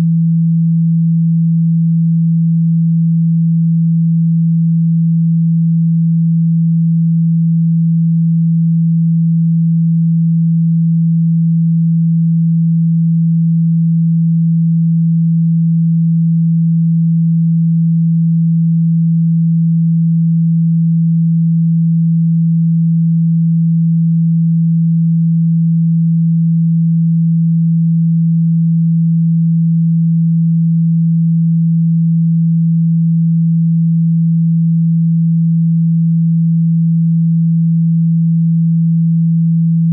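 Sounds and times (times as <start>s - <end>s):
low sine tone: 0.0s - 39.9s.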